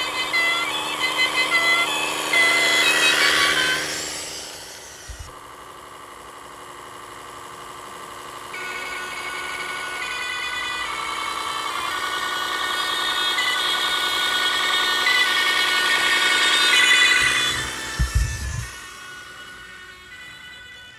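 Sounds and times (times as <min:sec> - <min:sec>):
electric motor whine: 0:00.0 - 0:20.9
simulated engine sound from speaker: 0:00.0 - 0:20.9.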